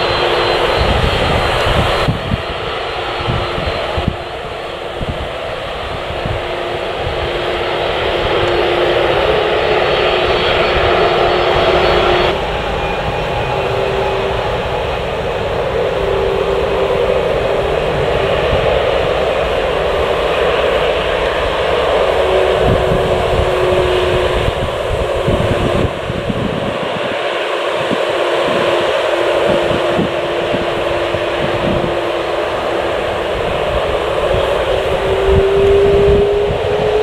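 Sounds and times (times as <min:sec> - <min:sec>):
jet engines roaring with whine: 0:00.0 - 0:37.0.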